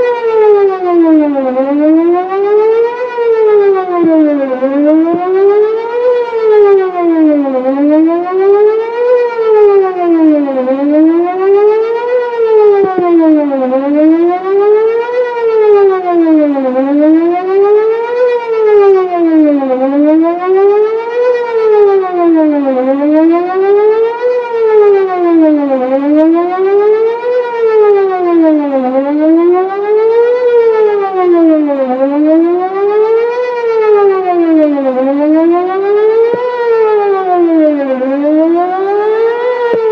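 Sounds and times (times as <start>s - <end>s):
electronic warning siren wailing: 0.0s - 39.9s.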